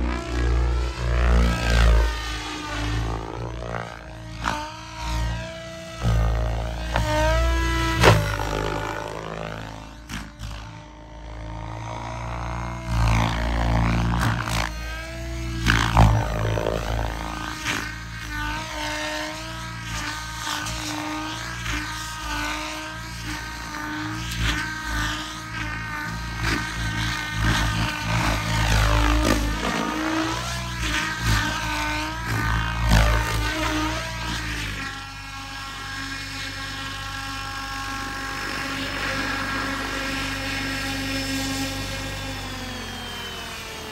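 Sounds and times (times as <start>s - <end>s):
helicopter rotor blades whooshing: 0.0s - 43.9s
model helicopter drive whining: 0.0s - 43.9s.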